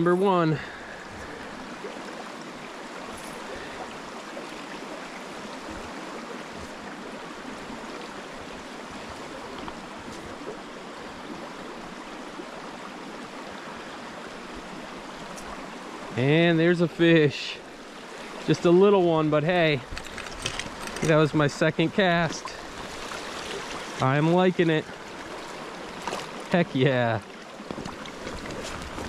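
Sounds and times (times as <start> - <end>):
creek water flowing over rocks: 0.0 - 29.0.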